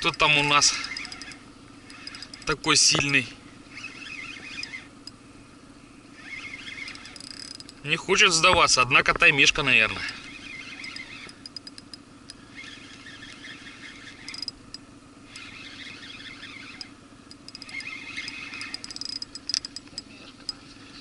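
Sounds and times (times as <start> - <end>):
fishing reel ticking and whirring: 0.0 - 5.2, 6.1 - 8.5, 9.7 - 21.0
low steady hum: 0.0 - 21.0.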